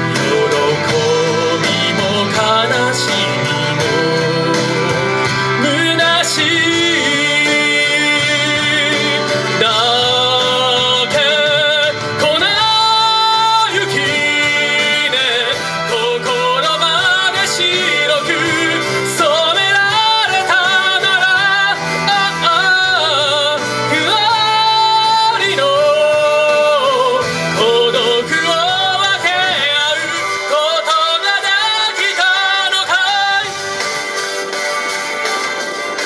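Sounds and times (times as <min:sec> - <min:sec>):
instrumental backing music: 0:00.0 - 0:36.0
person singing live: 0:00.0 - 0:36.0.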